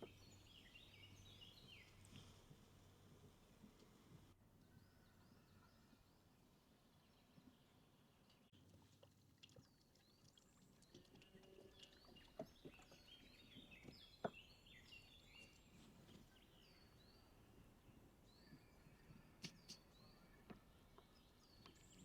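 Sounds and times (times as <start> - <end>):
faint birdsong chirps: 0.0 - 22.0.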